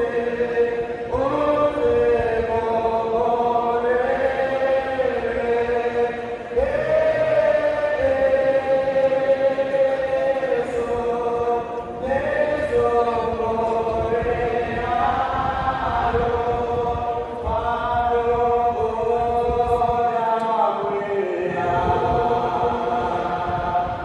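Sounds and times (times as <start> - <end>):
choir and congregation singing hymn: 0.0 - 24.0.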